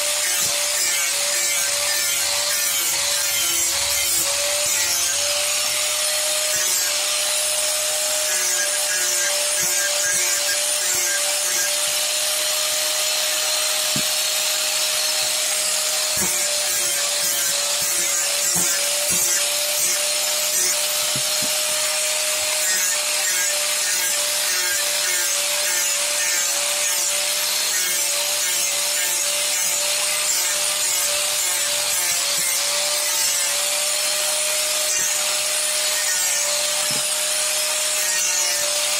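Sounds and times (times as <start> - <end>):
angle grinder motor whine: 0.0 - 38.9
grinding disc hissing on wood: 1.3 - 25.7, 30.8 - 38.9.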